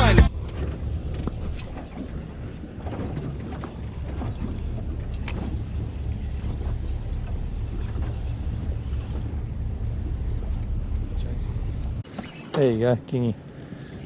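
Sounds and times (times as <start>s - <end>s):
boat motor idling: 0.0s - 14.0s.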